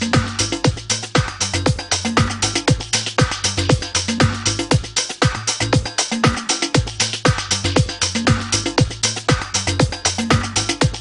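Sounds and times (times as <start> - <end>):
upbeat electronic dance music: 0.0 - 11.0.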